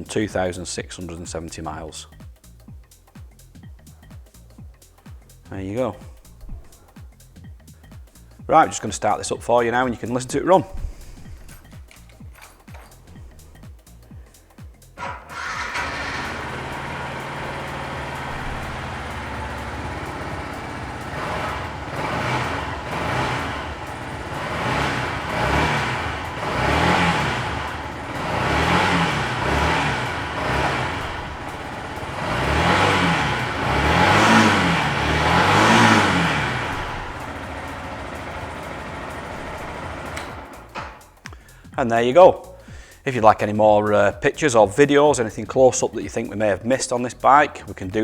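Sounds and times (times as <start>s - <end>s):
motorcycle engine idling and revving: 2.1s - 41.5s.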